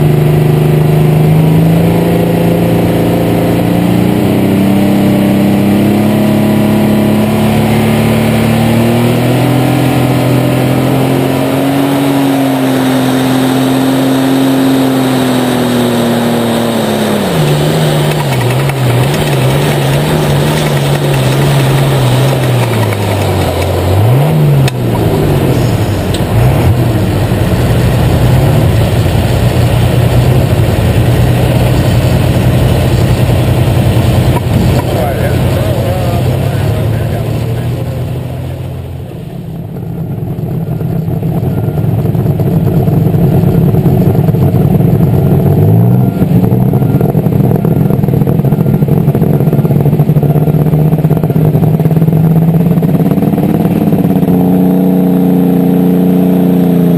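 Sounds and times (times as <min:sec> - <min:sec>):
tractor engine at full throttle: 0:00.0 - 0:56.9.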